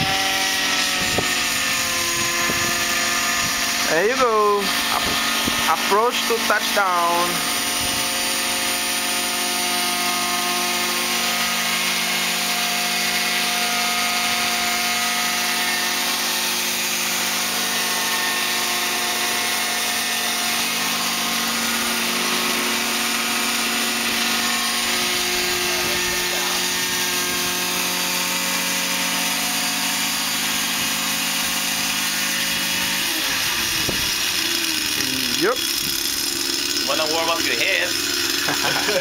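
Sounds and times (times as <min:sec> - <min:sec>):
model aircraft engine running: 0:00.0 - 0:39.0.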